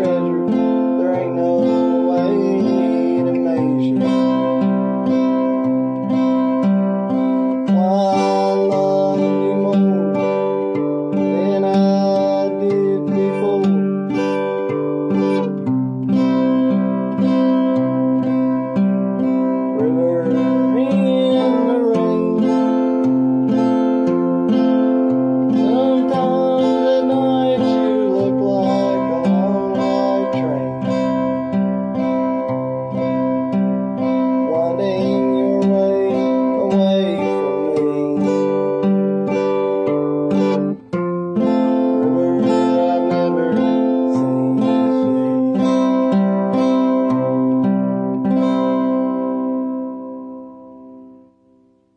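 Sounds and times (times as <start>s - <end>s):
man singing: 0.0s - 48.6s
acoustic guitar strumming: 0.0s - 51.9s.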